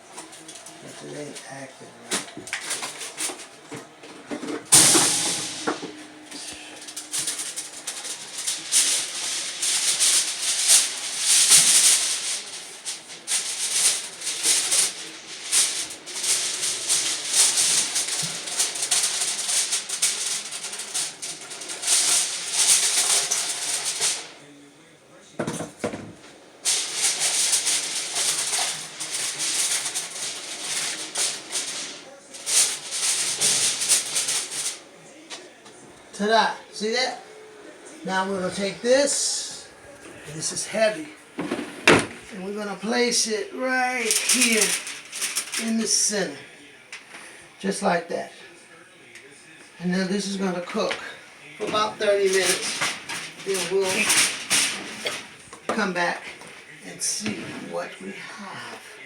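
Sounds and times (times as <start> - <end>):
aluminum foil crinkling: 0.2 - 25.0, 25.6 - 36.3, 38.0 - 57.3.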